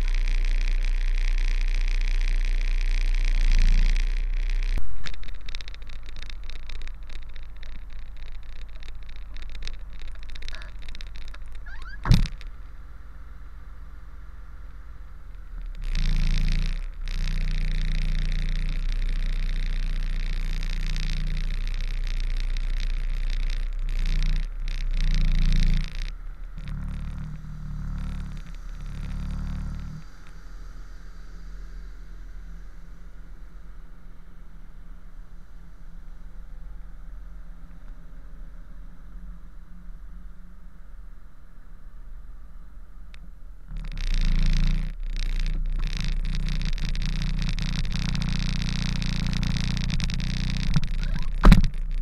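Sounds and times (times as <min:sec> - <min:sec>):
crackling: 0:00.0 - 0:52.0.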